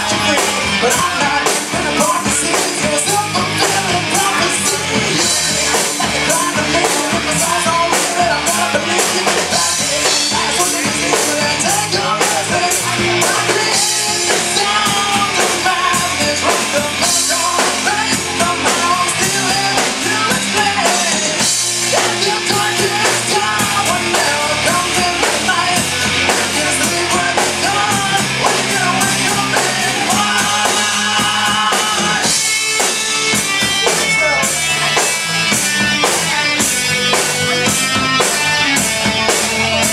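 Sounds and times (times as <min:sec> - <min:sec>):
drum kit: 0:00.0 - 0:39.9
loud rock music: 0:00.0 - 0:39.9
person singing: 0:00.0 - 0:39.9.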